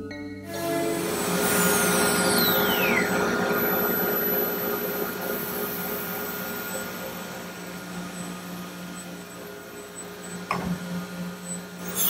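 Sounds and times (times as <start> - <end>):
router spindle whine spinning down: 0.5 - 12.0
vacuum pump hiss and hum: 0.6 - 12.0.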